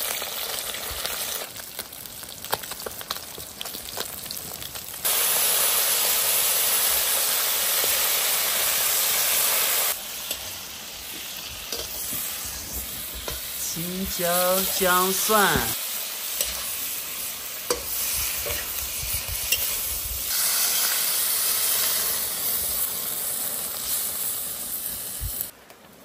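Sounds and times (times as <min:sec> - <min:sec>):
fish deep-frying in oil: 0:00.0 - 0:25.5.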